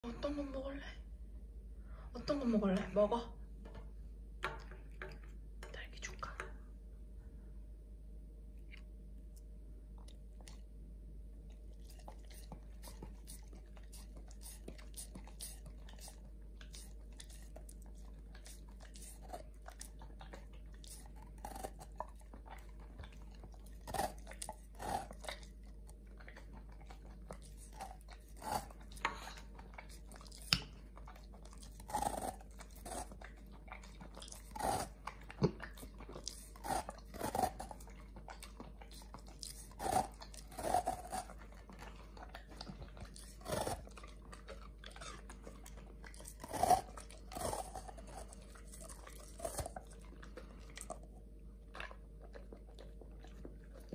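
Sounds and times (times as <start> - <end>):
dog licking and chewing: 8.7 - 53.9.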